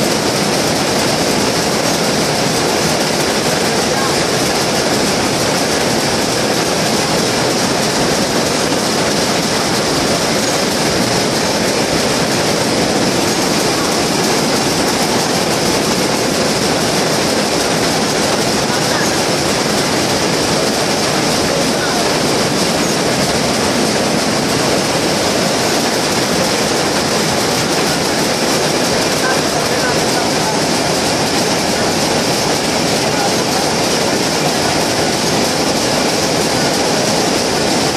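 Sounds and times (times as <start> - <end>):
looms clattering: 0.0 - 37.9.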